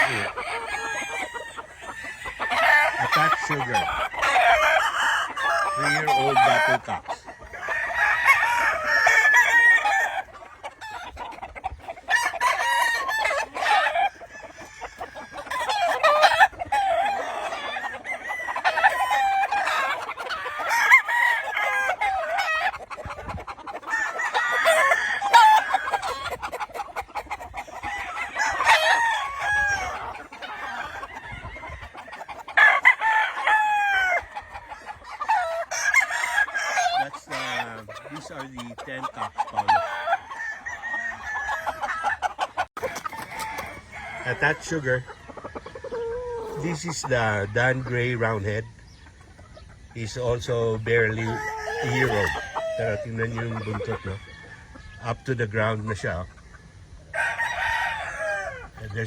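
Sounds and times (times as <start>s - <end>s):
roosters crowing: 0.0s - 59.0s.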